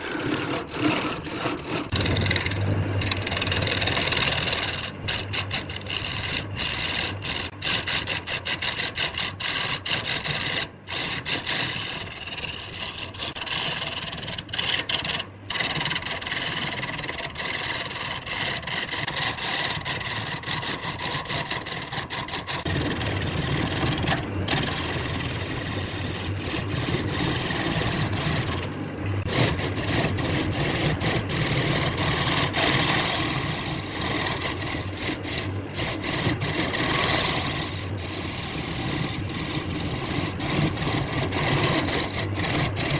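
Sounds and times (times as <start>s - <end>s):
turning tool scraping wood: 0.0s - 42.9s
wood lathe whine: 0.0s - 42.9s.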